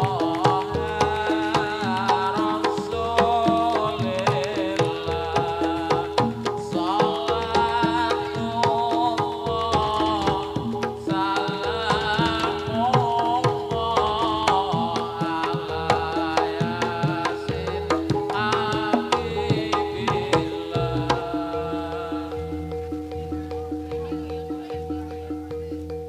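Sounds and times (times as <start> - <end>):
hand drum strokes: 0.0 - 26.0
metallophone notes: 0.0 - 26.0
wavering melody: 0.0 - 26.0.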